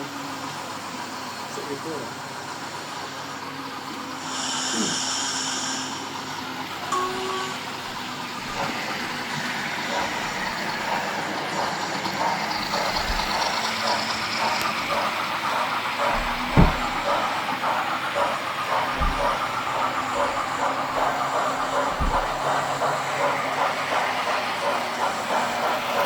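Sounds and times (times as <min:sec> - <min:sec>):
model steam locomotive chuffing: 0:00.0 - 0:26.0.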